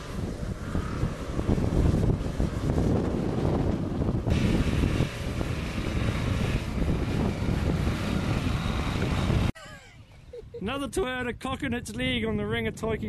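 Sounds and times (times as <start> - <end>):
off-road engines labouring: 0.0 - 10.8
wind noise on microphone: 0.0 - 13.0.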